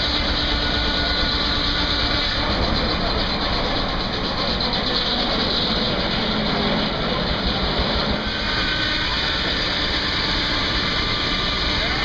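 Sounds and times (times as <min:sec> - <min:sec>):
circular saw running: 0:00.0 - 0:12.0
steam traction engine running: 0:00.0 - 0:12.0.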